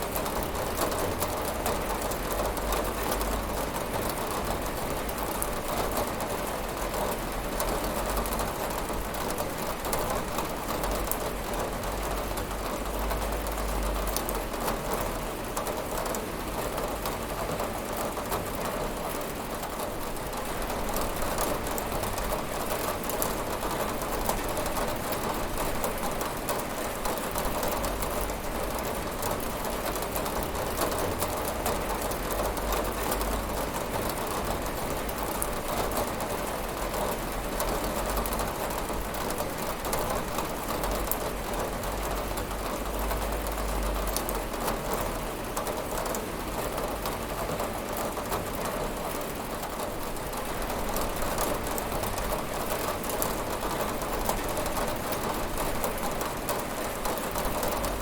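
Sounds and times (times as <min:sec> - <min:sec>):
rain pattering on a window: 0:00.0 - 0:58.0.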